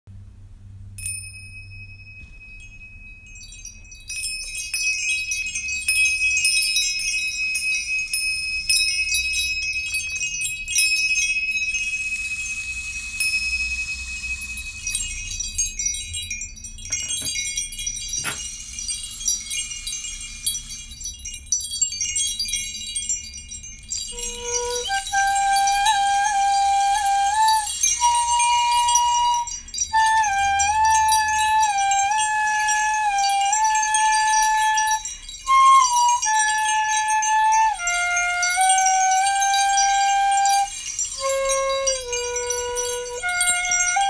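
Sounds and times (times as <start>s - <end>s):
high overlapping tinkling tones: 0.8s - 44.0s
small hand cymbals ringing: 0.9s - 44.0s.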